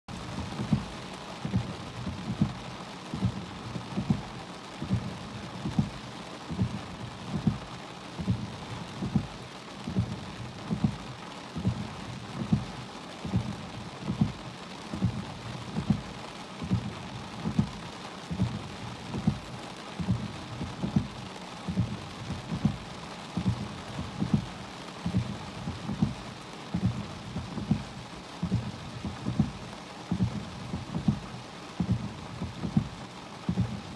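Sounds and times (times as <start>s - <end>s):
rain on a car: 0.1s - 33.9s
windshield wipers thumping: 0.2s - 33.9s.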